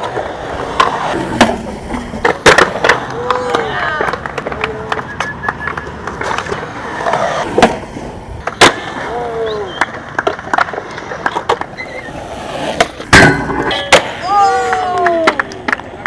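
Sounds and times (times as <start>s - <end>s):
skateboard clacks popping and landing: 0.0s - 16.0s
skateboard wheels rolling on concrete: 0.0s - 16.0s.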